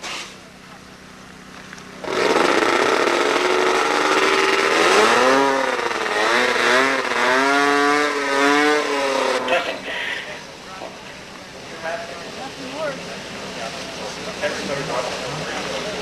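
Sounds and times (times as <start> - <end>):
snowmobile engines revving: 2.0 - 10.6, 11.5 - 16.0.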